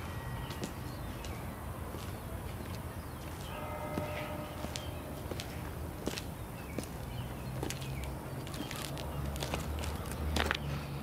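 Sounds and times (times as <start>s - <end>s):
footsteps on pavement: 0.0s - 11.0s
outdoor background noise: 0.0s - 11.0s.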